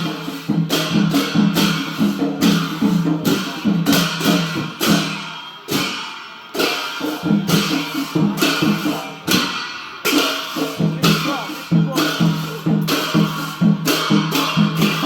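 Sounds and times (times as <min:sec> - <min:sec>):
cymbal crashes: 0:00.0 - 0:15.0
drum beats: 0:00.0 - 0:15.0.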